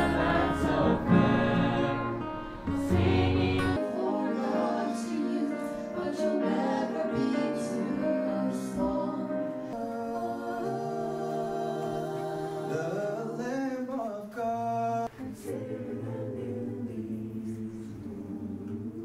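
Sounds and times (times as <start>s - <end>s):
a cappella group singing: 0.0s - 19.0s.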